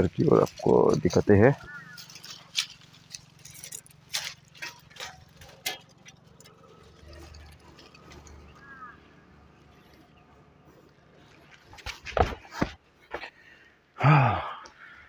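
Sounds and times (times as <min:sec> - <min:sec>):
dry brush snapping and rustling: 0:00.0 - 0:12.7
footsteps crunching on loose stones: 0:00.0 - 0:13.4.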